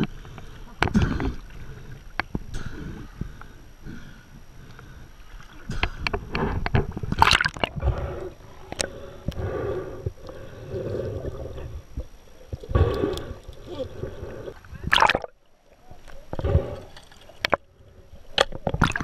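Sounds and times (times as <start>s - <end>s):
sharp clicks underwater: 0.0s - 3.6s, 4.6s - 15.4s, 16.0s - 17.7s, 18.3s - 19.0s
muffled underwater gurgling: 0.0s - 19.0s.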